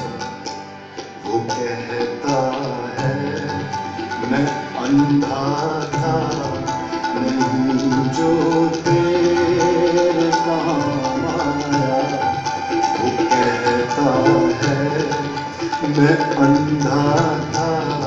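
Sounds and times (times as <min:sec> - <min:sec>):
harmonium holding notes: 0:00.0 - 0:18.0
tabla strokes: 0:00.0 - 0:18.0.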